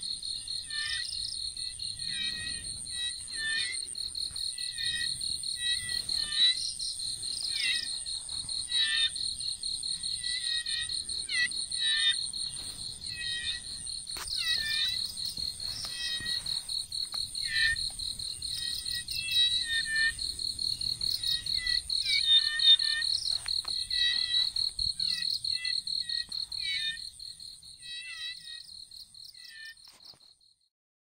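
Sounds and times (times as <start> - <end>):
high fast-pulsing insect trill: 0.0 - 29.8
frogs chirping: 0.0 - 30.4.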